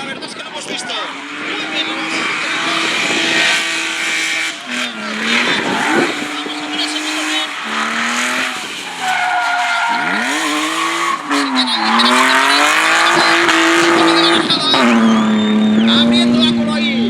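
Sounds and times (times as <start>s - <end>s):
tyres squealing: 0.0s - 16.4s
car engine revving: 0.0s - 17.0s.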